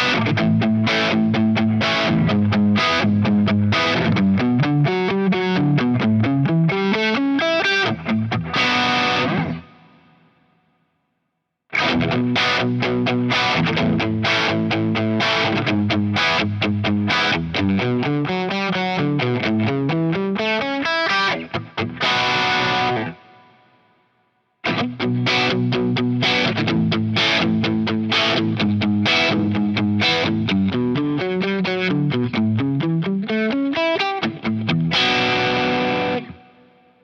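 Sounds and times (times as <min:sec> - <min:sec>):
distorted electric guitar riffs: 0:00.0 - 0:10.4, 0:11.7 - 0:23.9, 0:24.6 - 0:37.0.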